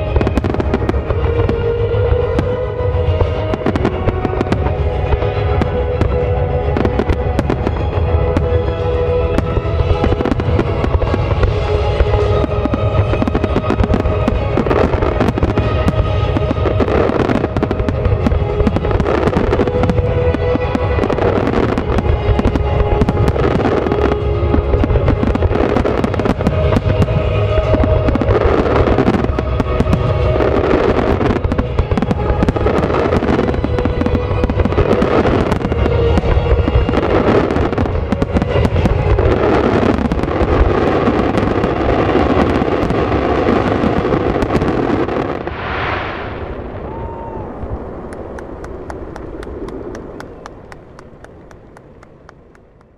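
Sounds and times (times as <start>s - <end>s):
music playing: 0.0s - 47.2s
fireworks booming and crackling: 0.0s - 52.9s.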